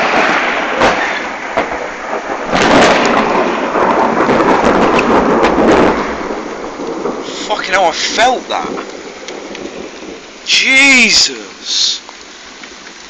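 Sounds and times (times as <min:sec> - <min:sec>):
thunder cracks and rumble: 0:00.0 - 0:10.5
heavy rain pouring: 0:00.0 - 0:13.0.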